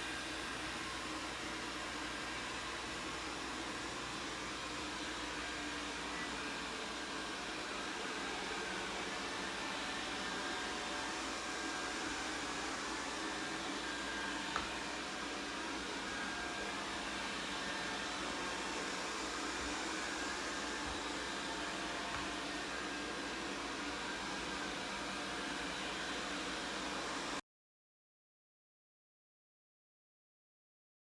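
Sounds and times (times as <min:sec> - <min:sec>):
robot vacuum cleaner running: 0:00.0 - 0:27.4.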